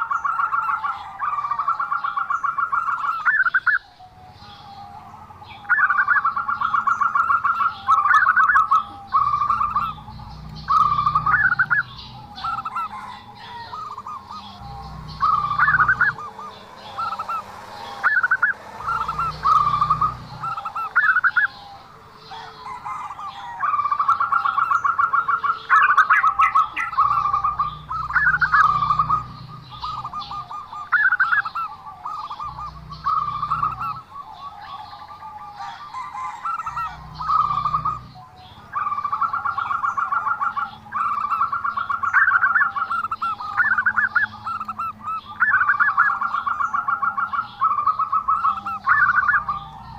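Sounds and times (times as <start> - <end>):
dove trilled cooing: 0.0 - 49.9.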